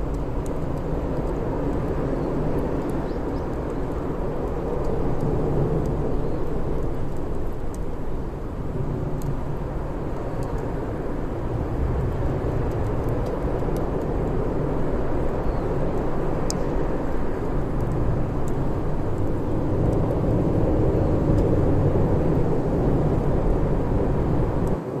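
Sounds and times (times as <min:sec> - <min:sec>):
fire crackles and pops: 0:00.0 - 0:25.0.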